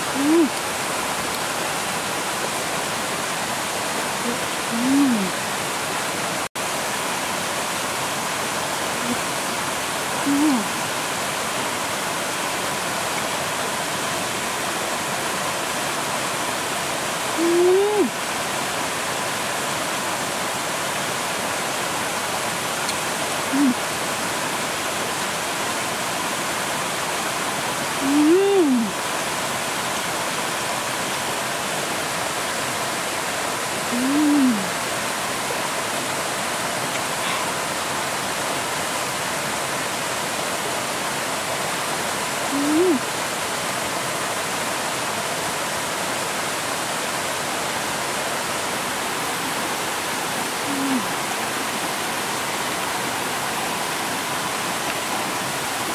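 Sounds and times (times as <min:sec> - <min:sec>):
stream running over rocks: 0:00.0 - 0:55.9.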